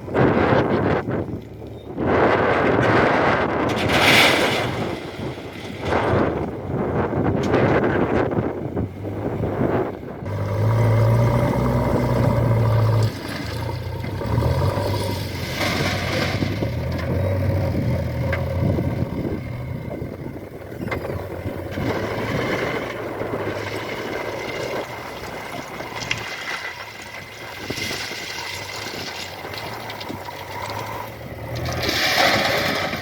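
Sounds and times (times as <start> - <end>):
heavy diesel machinery labouring: 0.0 - 33.0.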